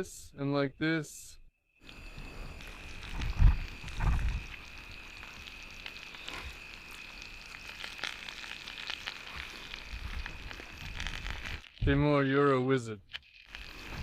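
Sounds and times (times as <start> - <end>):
meat sizzling on a grill: 1.8 - 14.0
sharp crackles: 1.8 - 14.0.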